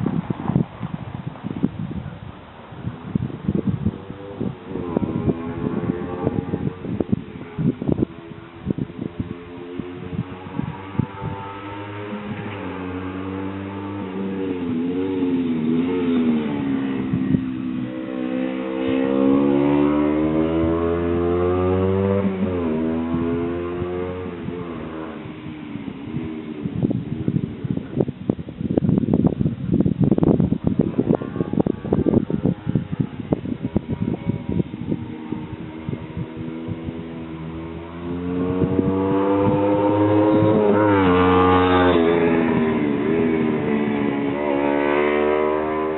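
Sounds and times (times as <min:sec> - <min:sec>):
motorcycle engine revving: 0:03.0 - 0:28.1, 0:30.2 - 0:45.9.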